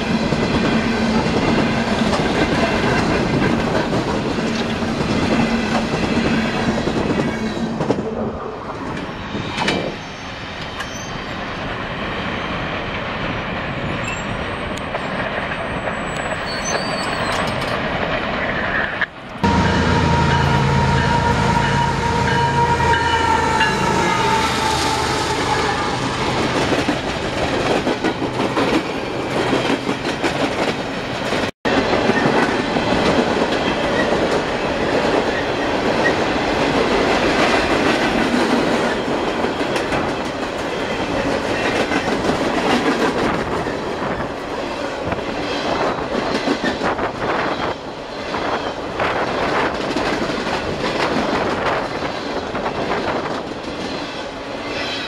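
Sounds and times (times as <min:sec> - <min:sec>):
train wheels clickety-clack: 0:00.0 - 0:10.0, 0:13.4 - 0:19.4, 0:26.4 - 0:55.0.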